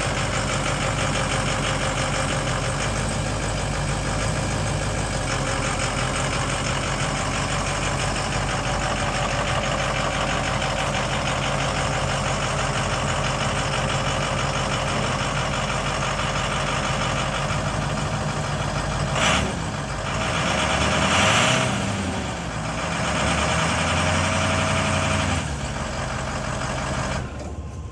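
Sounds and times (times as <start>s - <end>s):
diesel engine idling and revving: 0.0s - 27.9s.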